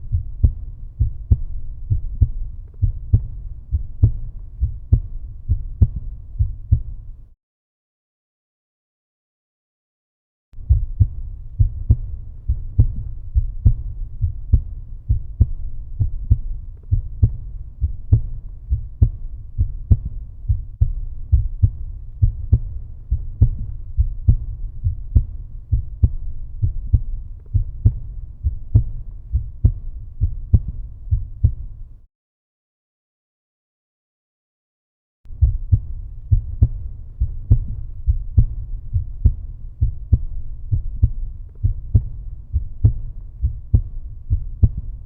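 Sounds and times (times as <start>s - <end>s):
heartbeat thumps: 0.0s - 7.2s, 10.6s - 32.0s, 35.3s - 45.0s.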